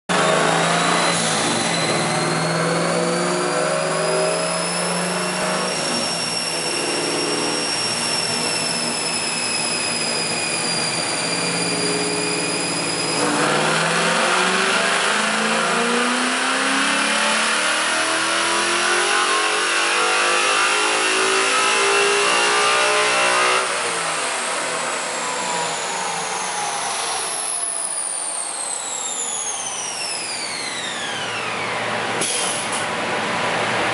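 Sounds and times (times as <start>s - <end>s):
dyno rollers whining: 0.1s - 16.4s, 20.8s - 33.9s
engine revving on a dyno: 0.1s - 33.9s.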